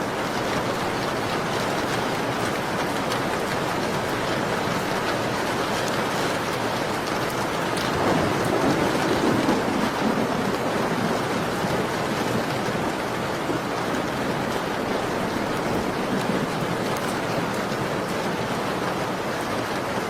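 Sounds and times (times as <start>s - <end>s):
rainfall: 0.0s - 20.0s.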